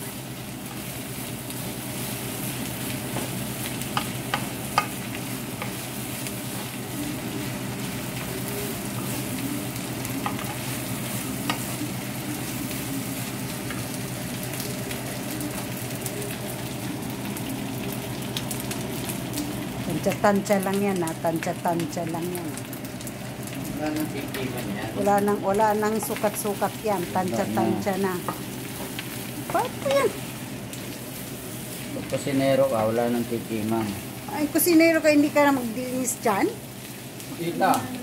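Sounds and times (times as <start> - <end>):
meat sizzling in a frying pan: 0.0 - 38.0.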